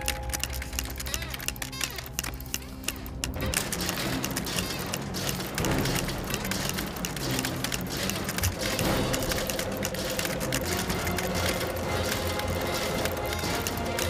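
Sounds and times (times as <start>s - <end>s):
fast keyboard typing: 0.0s - 14.0s.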